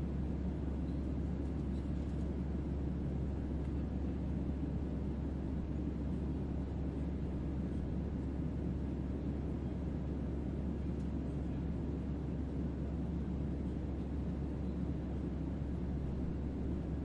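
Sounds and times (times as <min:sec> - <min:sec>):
airliner cabin drone: 0:00.0 - 0:17.0.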